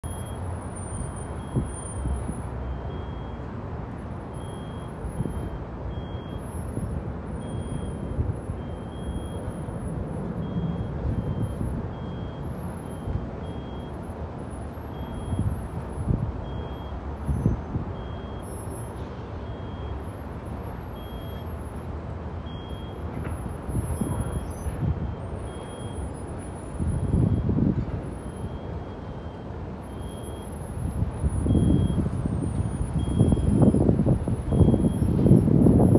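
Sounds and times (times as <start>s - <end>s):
reversing alarm beeping: 0.0s - 35.9s
traffic rumble: 0.0s - 35.9s.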